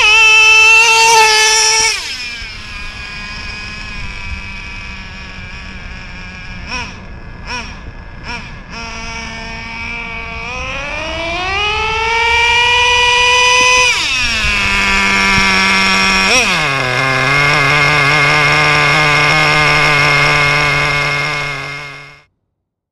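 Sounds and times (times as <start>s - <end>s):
small motor whirring: 0.0s - 22.2s.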